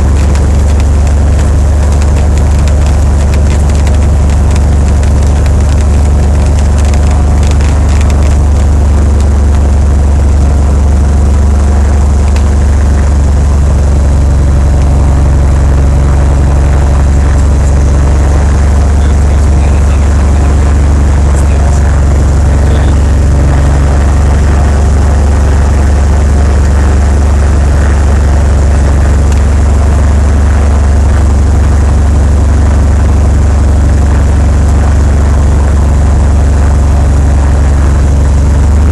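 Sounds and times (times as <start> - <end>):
aircraft piston engine droning: 0.0 - 38.9.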